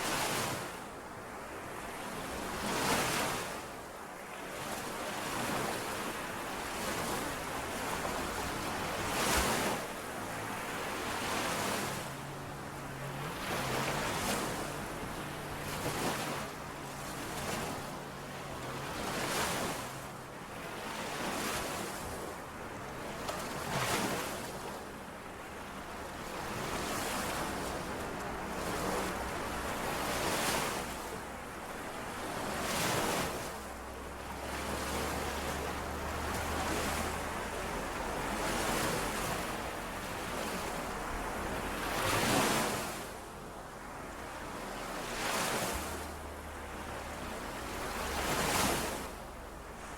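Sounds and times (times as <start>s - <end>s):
lake waves washing on shore: 0.0s - 49.9s.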